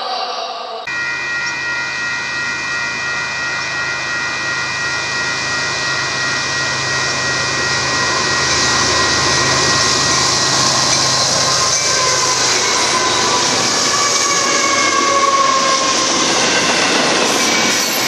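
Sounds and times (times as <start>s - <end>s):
steady high tones: 0.8s - 18.0s
freight train passing: 0.9s - 18.0s.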